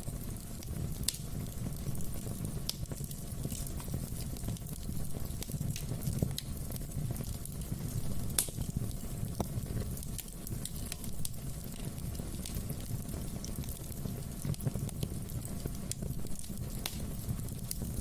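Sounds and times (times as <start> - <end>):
fire crackling: 0.0 - 18.0
fire popping and snapping: 0.0 - 18.0.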